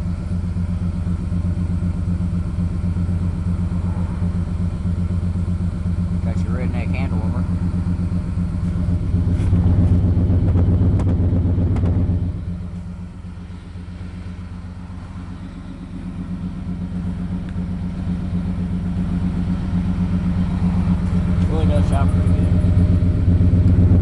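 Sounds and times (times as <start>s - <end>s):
pickup truck engine idling: 0.0s - 24.0s.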